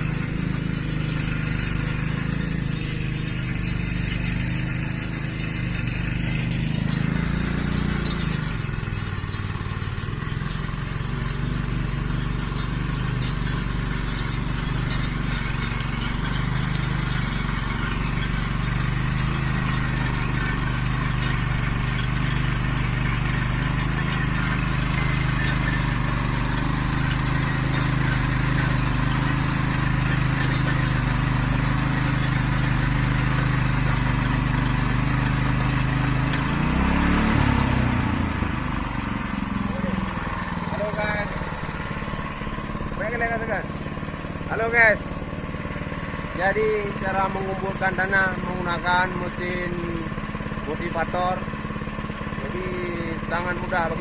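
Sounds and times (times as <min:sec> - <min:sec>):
small tiller engine running: 0:00.0 - 0:54.0.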